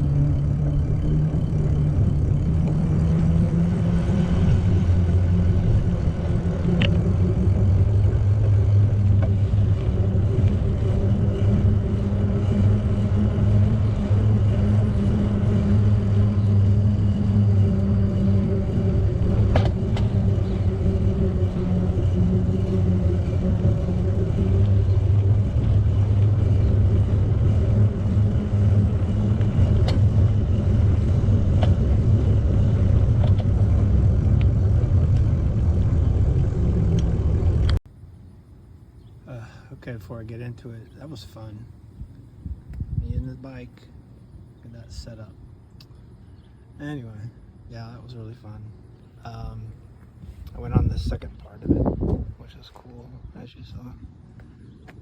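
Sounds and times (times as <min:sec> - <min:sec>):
low rumble: 0:00.0 - 0:39.2, 0:41.6 - 0:46.6, 0:47.2 - 0:55.0
constant hum: 0:00.0 - 0:55.0.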